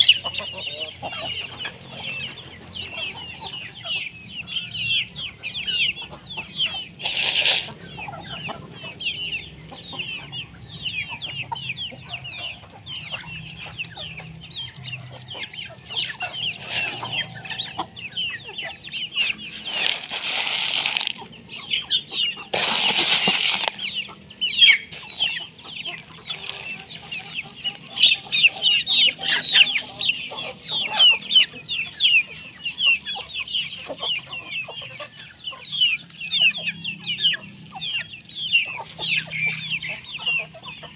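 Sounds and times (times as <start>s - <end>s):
chickens clucking: 0.0s - 40.9s
chicks peeping and chirping: 0.0s - 40.9s.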